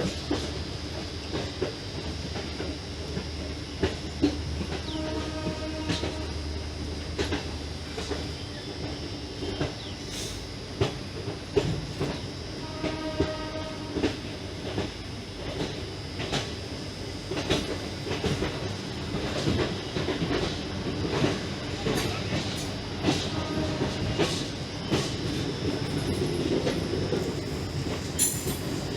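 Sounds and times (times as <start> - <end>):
train wheels clattering over rail joints: 0.0 - 6.2, 6.8 - 16.6, 17.2 - 28.9
steady train rumble: 0.0 - 28.9.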